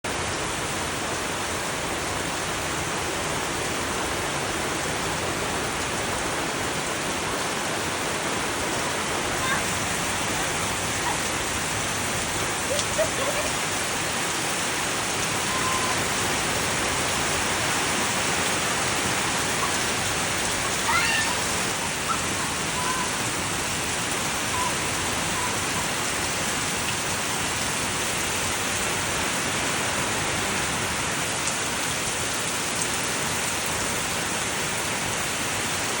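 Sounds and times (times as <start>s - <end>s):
steady rain falling: 0.1s - 36.0s.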